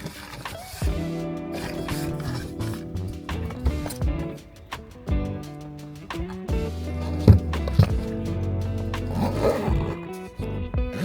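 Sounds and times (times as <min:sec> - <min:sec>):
background music with bass line: 0:00.7 - 0:11.0.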